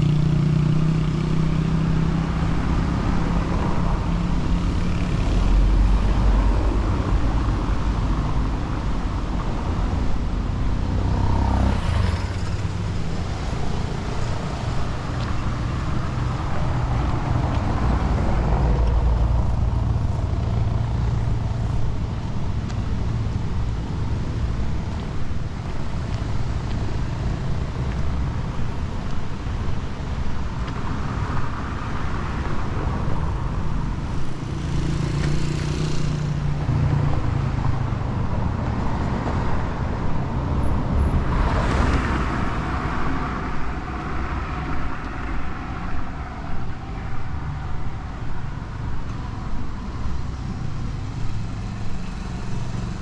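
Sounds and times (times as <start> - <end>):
vehicle engines running: 0.0 - 53.0
vehicles passing: 0.0 - 53.0.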